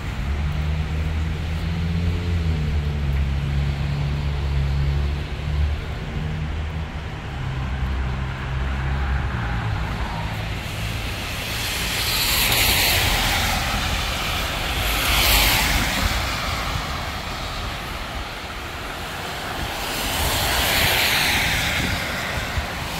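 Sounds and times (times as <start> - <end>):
tyres hissing on wet road: 0.0 - 22.9.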